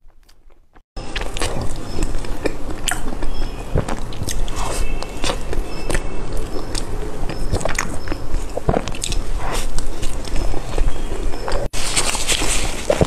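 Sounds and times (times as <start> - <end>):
sticky chewing: 0.1 - 13.0
lip smacks: 1.1 - 13.0
sharp mouth clicks: 1.2 - 11.7.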